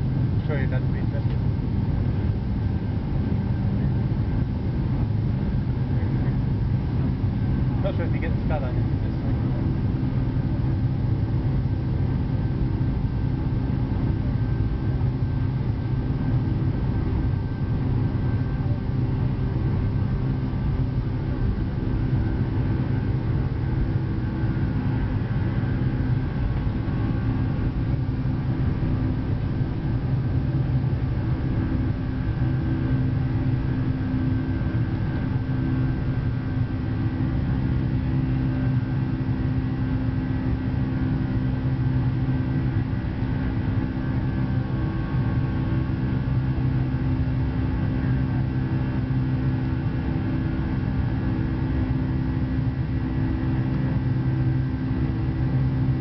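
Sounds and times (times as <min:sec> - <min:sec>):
jet engines rumbling and whining: 0:00.0 - 0:56.0.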